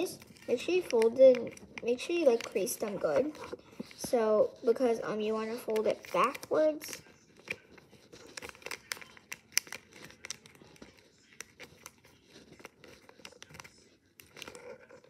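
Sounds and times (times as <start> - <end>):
paper folding and crinkling: 0.0 - 15.0.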